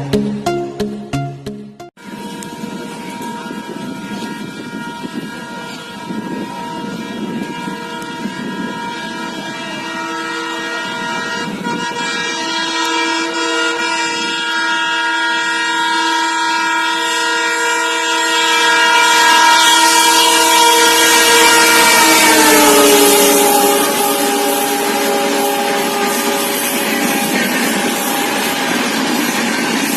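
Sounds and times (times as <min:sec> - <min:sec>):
locomotive air horn blast: 0:02.0 - 0:29.9
rush of running train: 0:02.0 - 0:29.9.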